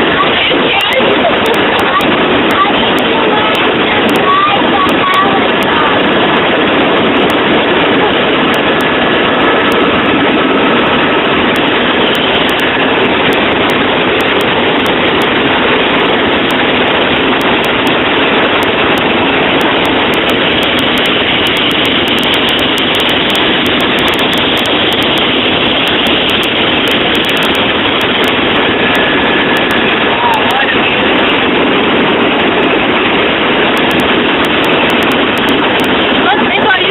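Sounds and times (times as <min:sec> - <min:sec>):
helicopter cabin drone: 0:00.0 - 0:36.9.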